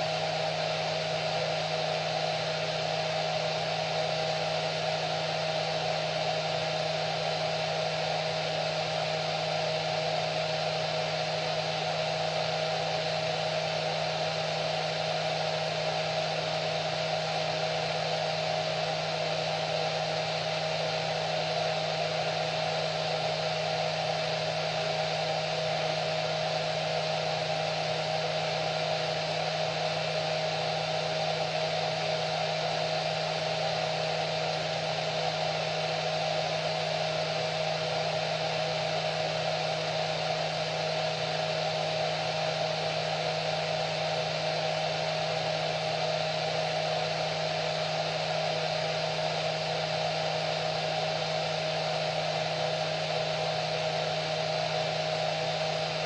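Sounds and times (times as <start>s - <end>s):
electric hair dryer running: 0.0s - 56.0s.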